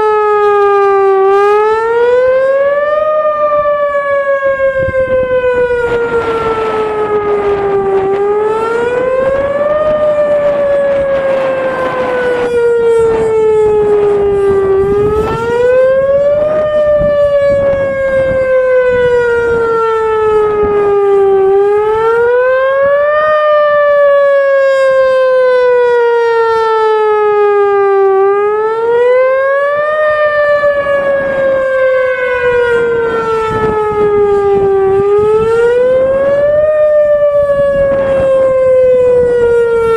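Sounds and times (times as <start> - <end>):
rising and falling warning siren: 0.0 - 39.9.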